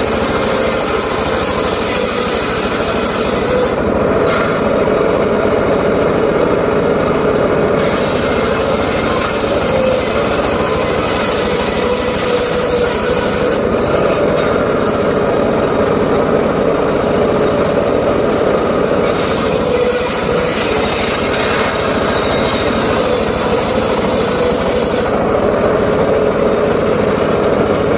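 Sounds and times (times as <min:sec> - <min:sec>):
circular saw cutting wood: 0:00.0 - 0:27.9.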